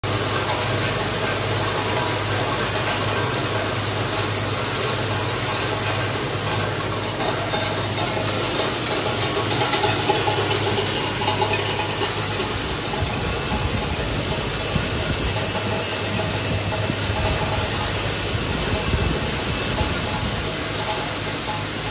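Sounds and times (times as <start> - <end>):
machine humming with hiss: 0.0 - 21.9.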